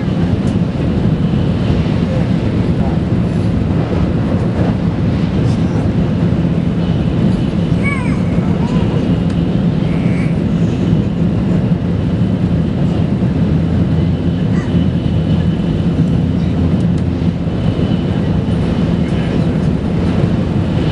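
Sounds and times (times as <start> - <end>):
train cabin low rumble: 0.0 - 20.9.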